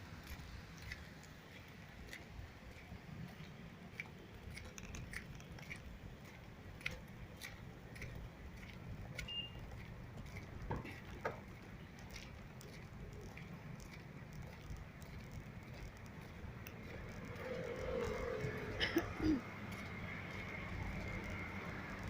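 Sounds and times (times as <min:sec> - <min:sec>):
faint clicks and taps: 0:00.2 - 0:18.9.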